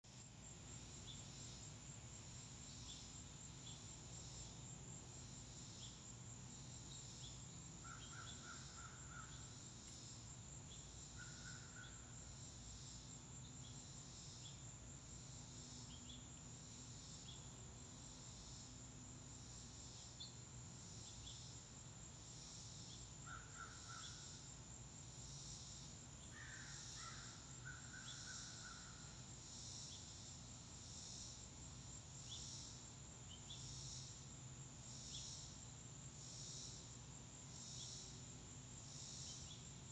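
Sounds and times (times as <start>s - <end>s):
insects trilling: 0.1s - 39.9s.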